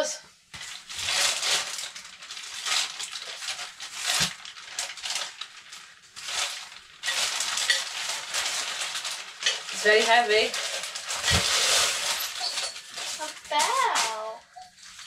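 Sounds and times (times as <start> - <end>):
plastic bag rustling: 0.6 - 15.0.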